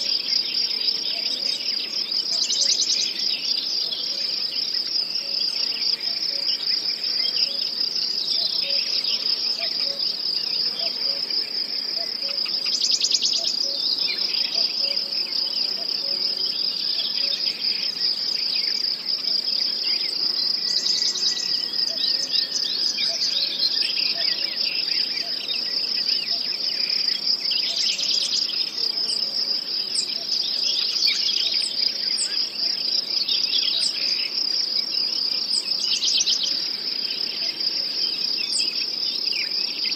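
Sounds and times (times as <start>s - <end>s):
cricket chorus trilling: 0.0s - 39.9s.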